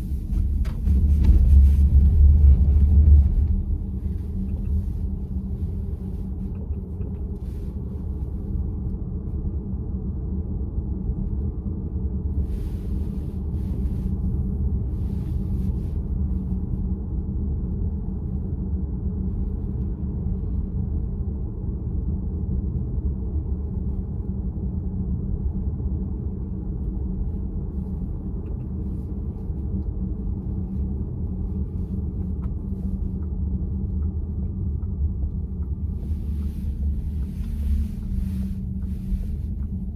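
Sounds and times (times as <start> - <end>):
road and tyre rumble inside car: 0.0 - 39.9.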